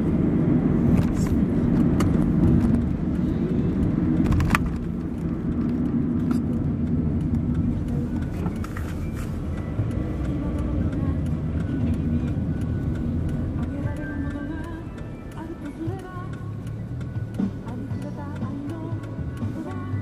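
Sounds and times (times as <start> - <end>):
low engine hum: 0.0 - 20.0
tyre and road rumble: 0.0 - 20.0.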